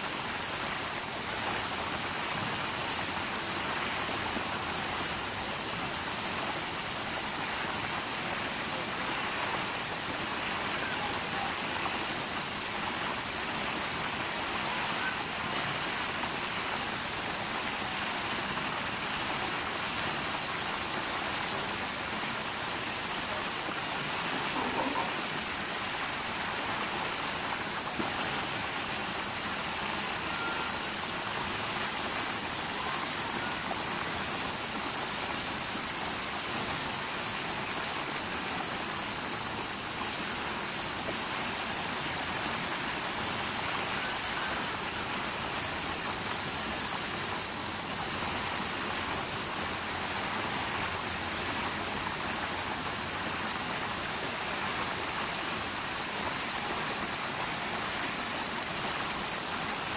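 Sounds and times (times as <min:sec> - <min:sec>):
high-pitched hiss: 0:00.0 - 0:59.9.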